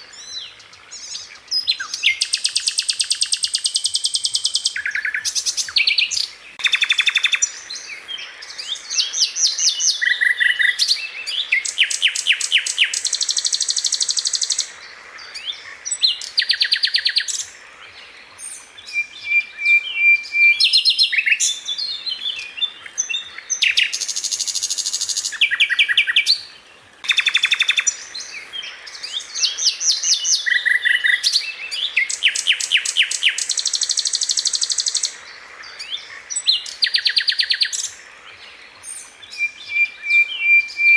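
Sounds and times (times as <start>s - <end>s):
flycatcher singing trills: 0.1s - 17.6s, 18.4s - 35.2s.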